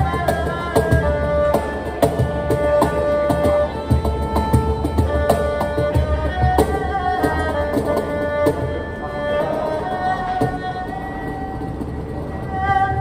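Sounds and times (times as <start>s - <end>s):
erhu playing bowed melody: 0.0s - 13.0s.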